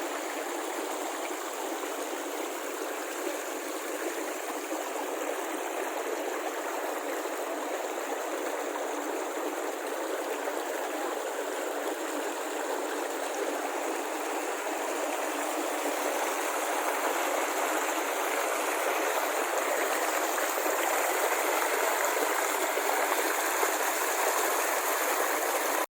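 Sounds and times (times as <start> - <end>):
water rushing: 0.0 - 25.9.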